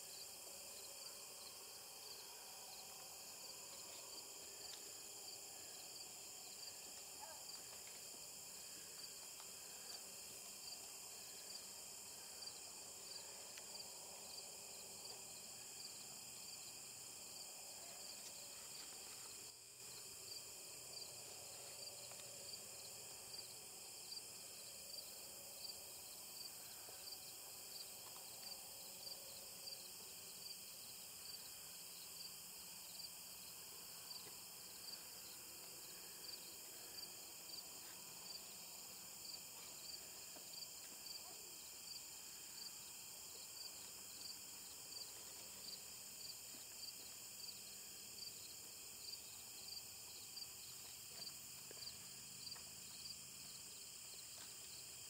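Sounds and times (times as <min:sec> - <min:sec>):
cricket-like chirp: 0:00.0 - 0:55.0.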